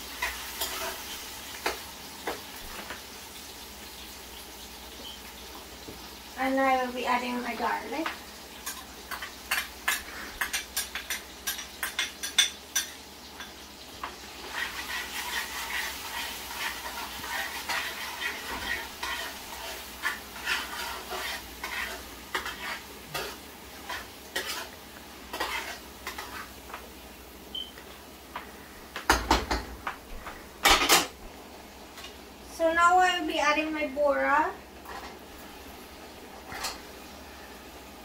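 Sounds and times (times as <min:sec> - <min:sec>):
garlic sizzling in oil: 0:00.0 - 0:38.0.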